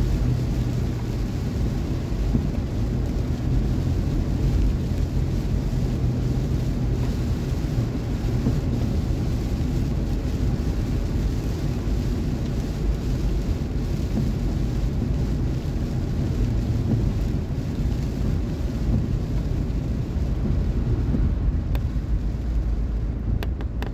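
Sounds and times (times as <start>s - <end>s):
engine and tyres on wet road: 0.0s - 23.9s
rain on windshield: 0.0s - 23.9s.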